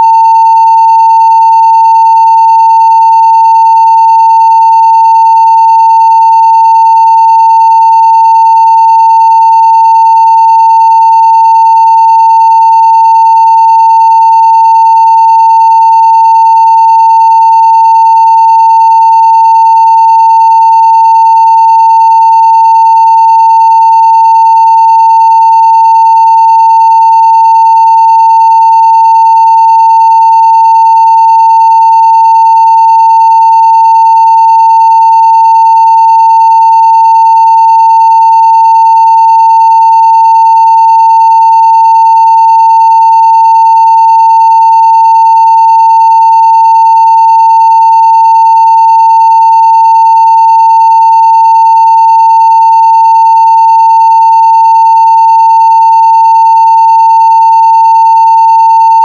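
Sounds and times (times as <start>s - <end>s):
steady sine-wave test tone: 0.0s - 59.0s.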